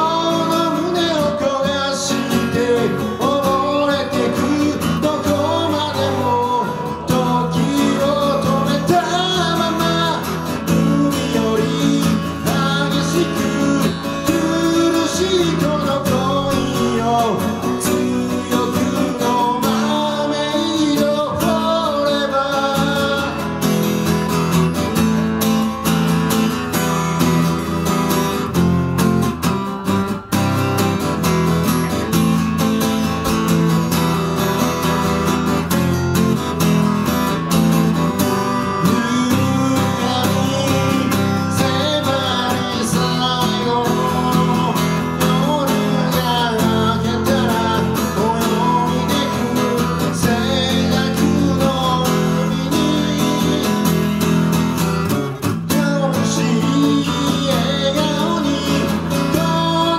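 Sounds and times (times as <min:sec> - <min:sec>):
man singing: 0:00.0 - 0:29.6, 0:31.3 - 0:59.9
acoustic guitar strumming: 0:00.0 - 0:59.9.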